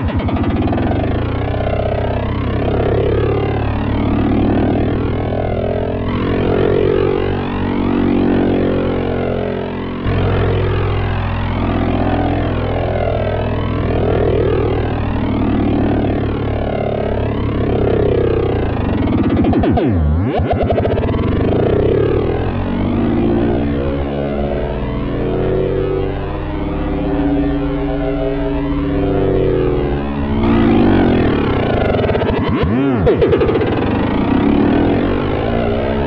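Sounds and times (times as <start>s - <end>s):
raspy synthesizer drone: 0.0s - 36.0s.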